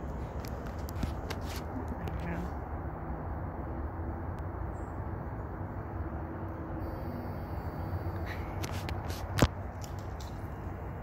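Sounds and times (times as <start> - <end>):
low outdoor rumble: 0.0 - 11.0
faint steady hum: 1.8 - 11.0.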